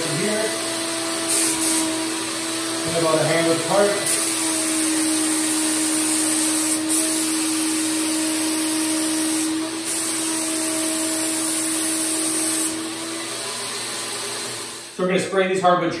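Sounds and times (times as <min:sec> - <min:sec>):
spray gun hissing: 0:00.0 - 0:13.0, 0:13.6 - 0:15.0.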